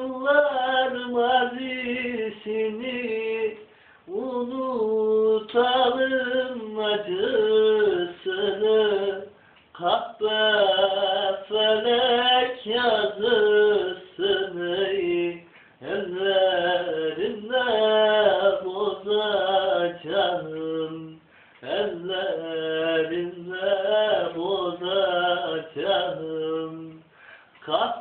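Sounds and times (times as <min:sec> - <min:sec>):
man singing unaccompanied: 0:00.0 - 0:28.0.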